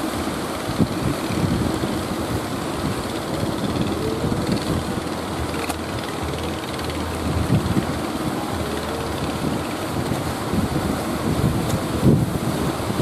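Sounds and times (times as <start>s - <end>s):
breaking surf: 0.0s - 13.0s
wind rumbling on microphone: 0.0s - 13.0s.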